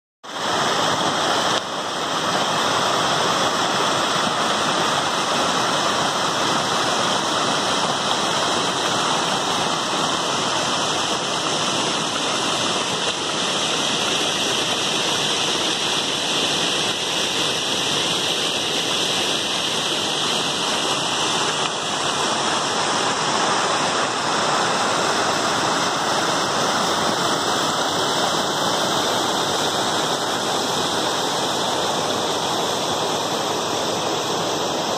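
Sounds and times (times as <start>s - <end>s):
muddy water rushing over rocks: 0.2s - 34.9s.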